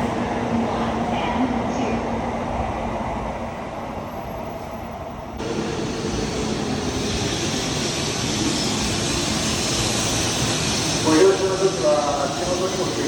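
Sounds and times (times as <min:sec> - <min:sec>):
train rushing rumble: 0:00.0 - 0:13.0.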